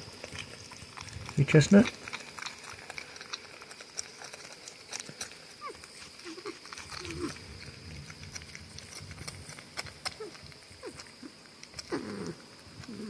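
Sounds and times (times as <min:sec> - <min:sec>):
porcupines chewing: 0:00.0 - 0:13.0.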